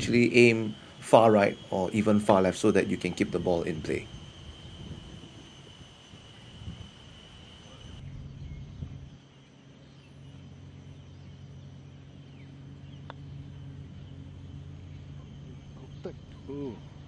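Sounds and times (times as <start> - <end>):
steady low hum: 0.0 - 17.0
thin high whine: 0.0 - 17.0.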